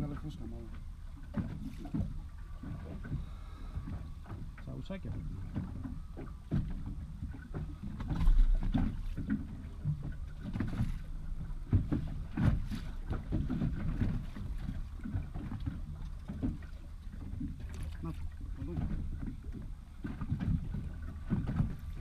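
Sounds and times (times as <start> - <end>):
knocks and thumps on boat: 0.0 - 22.0
wind and water rumble: 0.0 - 22.0.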